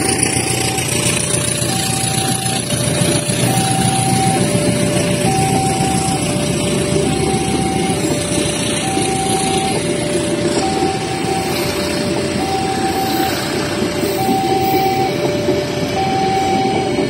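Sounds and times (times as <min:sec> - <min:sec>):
engines rumbling: 0:00.0 - 0:17.0
two-tone crossing alarm: 0:00.0 - 0:17.0.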